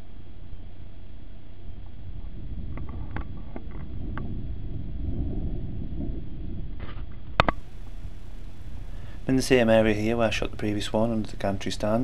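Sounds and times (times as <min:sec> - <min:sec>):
wind rumbling on microphone: 0:01.4 - 0:12.0.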